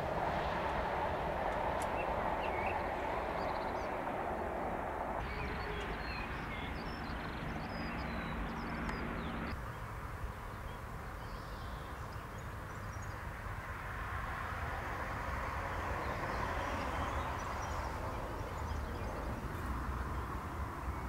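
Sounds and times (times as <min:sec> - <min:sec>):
birds chirping: 0:00.0 - 0:13.8, 0:15.6 - 0:21.0
outdoor rumble and hiss: 0:00.0 - 0:21.0.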